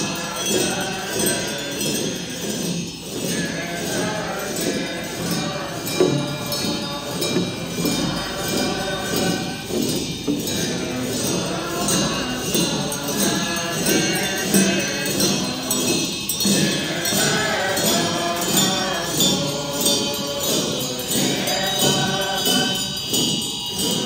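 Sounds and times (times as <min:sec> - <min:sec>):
group of voices chanting: 0:00.0 - 0:24.0.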